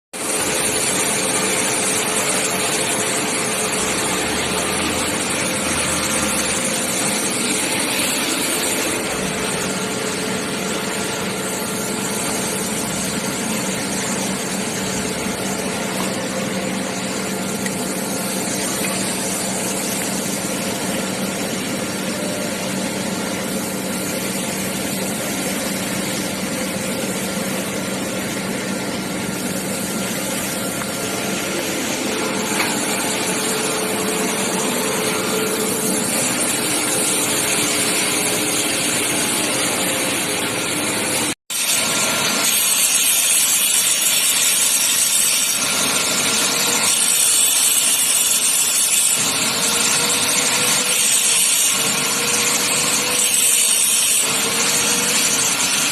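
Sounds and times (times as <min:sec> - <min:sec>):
machine humming steadily: 0:00.2 - 0:55.9.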